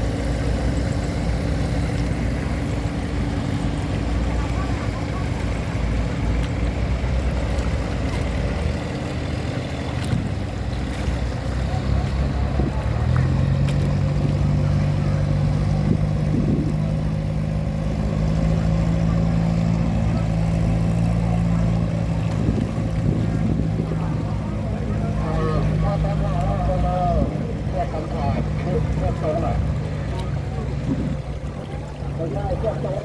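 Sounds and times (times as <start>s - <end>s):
boat diesel engine running: 0.0s - 33.0s.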